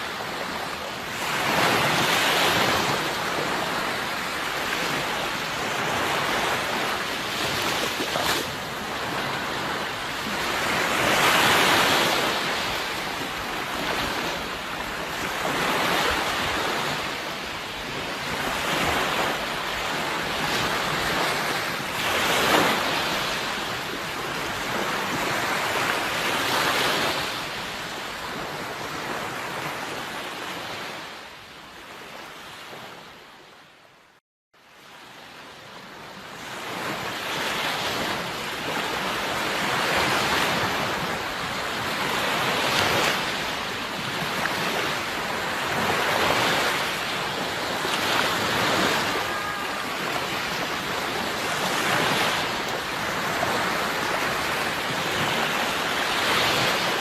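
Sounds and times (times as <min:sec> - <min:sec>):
sea waves breaking: 0:00.0 - 0:31.2, 0:34.8 - 0:57.0
wind: 0:00.0 - 0:57.0.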